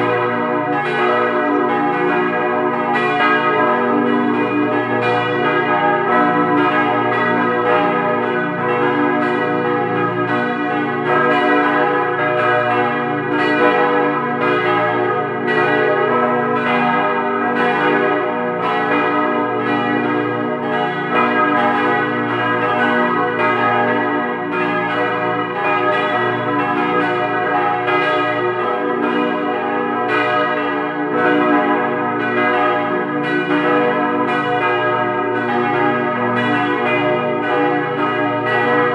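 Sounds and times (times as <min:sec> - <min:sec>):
church bells ringing: 0:00.0 - 0:38.9
deep bourdon bell: 0:00.0 - 0:38.9.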